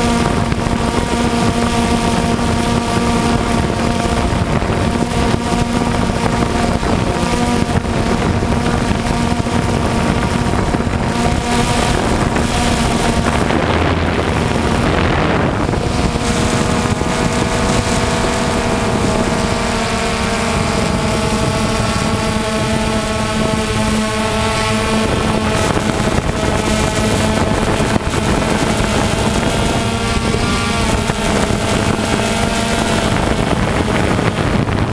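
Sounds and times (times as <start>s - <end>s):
engine running steadily: 0.0s - 34.9s
wind noise on microphone: 0.0s - 34.9s.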